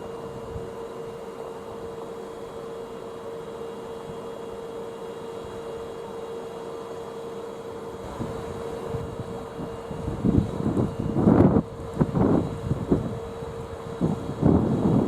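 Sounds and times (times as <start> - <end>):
steady mid-pitch hum: 0.0 - 15.0.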